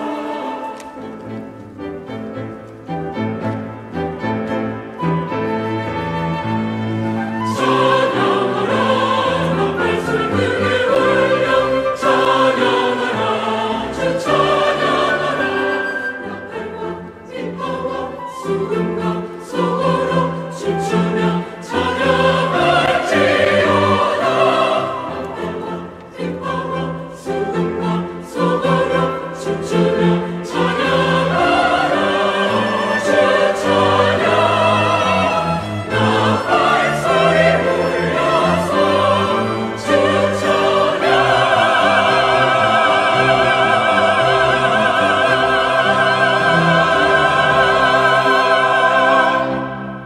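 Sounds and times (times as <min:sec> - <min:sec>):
choir singing: 0:00.0 - 0:50.0
piano: 0:00.0 - 0:50.0
strings: 0:00.0 - 0:50.0.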